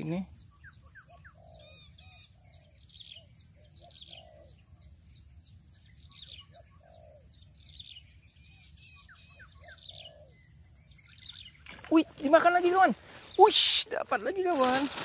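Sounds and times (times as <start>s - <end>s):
low rounded bird call notes: 0.0s - 14.0s.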